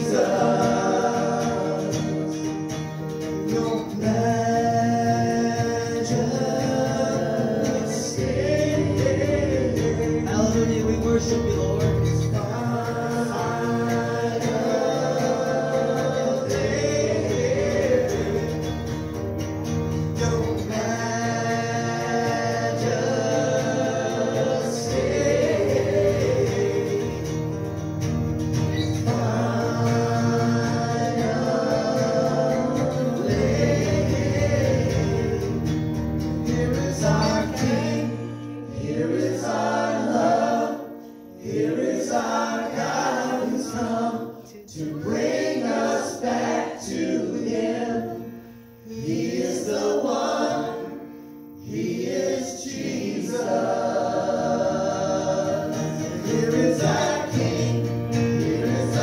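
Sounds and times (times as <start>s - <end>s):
people singing worship song: 0.0s - 59.0s
strummed acoustic guitar: 0.0s - 59.0s.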